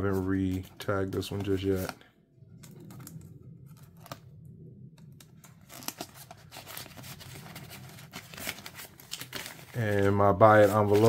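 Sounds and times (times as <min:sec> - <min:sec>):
paper rustling and crinkling: 0:00.0 - 0:02.0, 0:02.6 - 0:04.2, 0:05.1 - 0:11.0.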